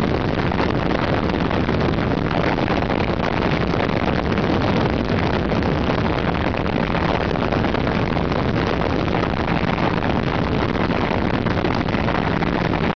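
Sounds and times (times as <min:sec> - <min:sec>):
microlight engine drone: 0:00.0 - 0:12.9
wind rushing on microphone: 0:00.0 - 0:13.0.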